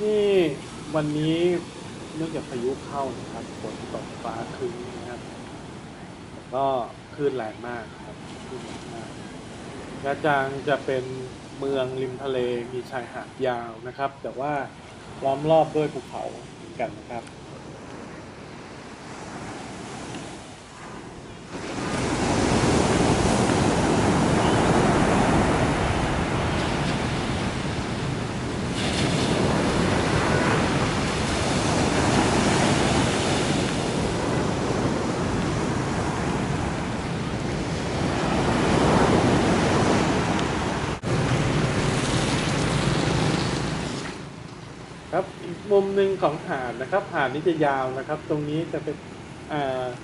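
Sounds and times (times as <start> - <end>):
waves breaking on beach: 0.0 - 50.0.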